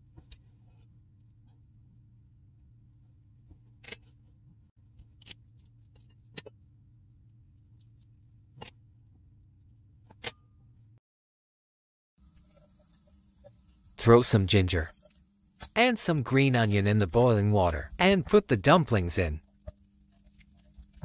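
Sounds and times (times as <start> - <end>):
low steady hum: 0.0 - 11.0, 12.2 - 21.0.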